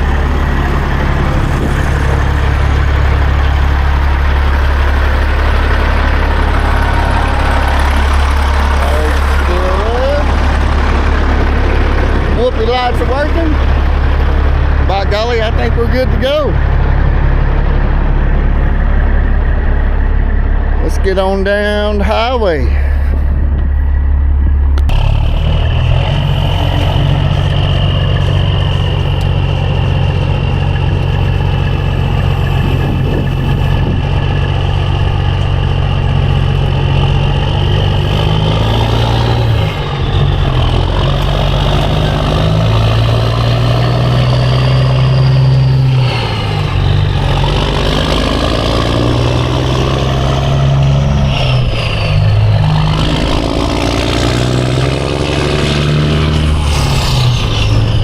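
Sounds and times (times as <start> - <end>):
diesel truck engine accelerating: 0.0 - 58.0.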